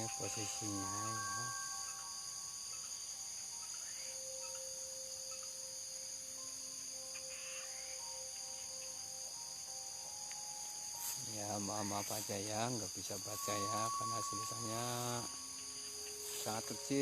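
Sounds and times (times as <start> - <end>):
crickets and night insects chirping: 0.0 - 17.0.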